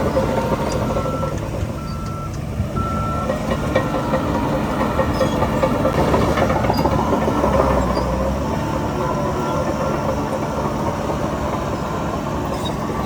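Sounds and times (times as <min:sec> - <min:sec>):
diesel engine running: 0:00.0 - 0:13.0
metallic clanking of tracks: 0:00.0 - 0:13.0
reversing alarm beeps: 0:00.0 - 0:13.0.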